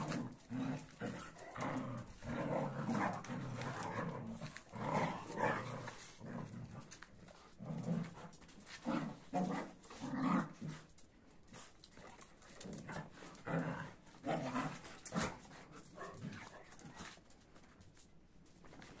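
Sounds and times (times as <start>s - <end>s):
dogs growling and snarling: 0.0s - 17.2s.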